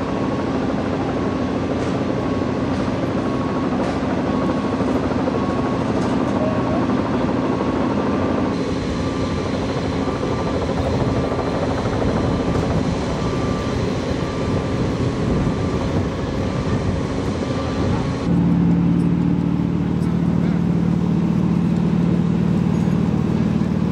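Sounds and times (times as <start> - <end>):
engines droning: 0.0 - 23.9.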